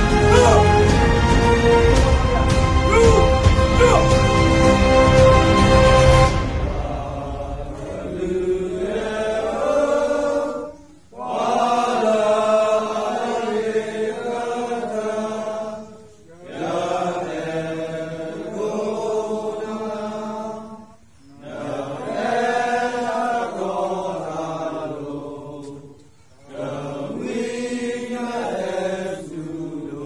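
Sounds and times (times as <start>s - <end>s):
group singing an anthem: 0.0s - 30.0s.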